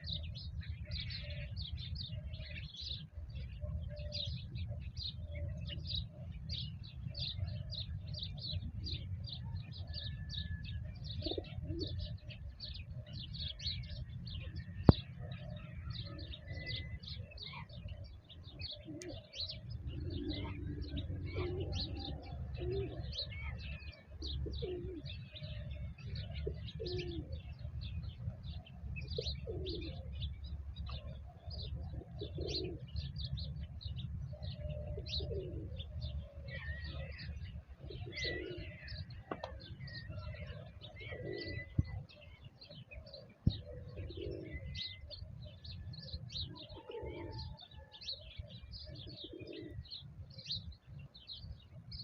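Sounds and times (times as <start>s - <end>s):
pigeons cooing: 0.0s - 51.4s
small birds chirping: 0.0s - 52.0s.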